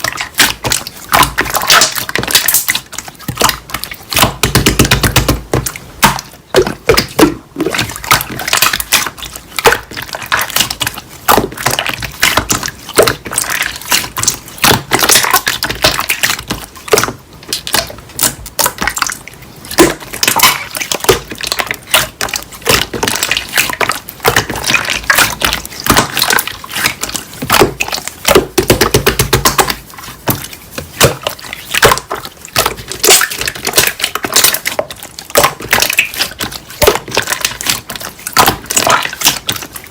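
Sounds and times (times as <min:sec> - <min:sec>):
slime squelching: 0:00.0 - 0:39.9.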